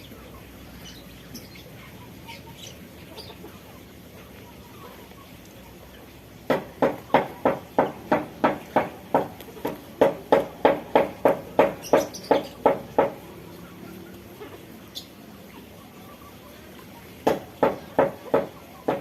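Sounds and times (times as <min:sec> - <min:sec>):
chicken clucking: 0:00.0 - 0:19.0.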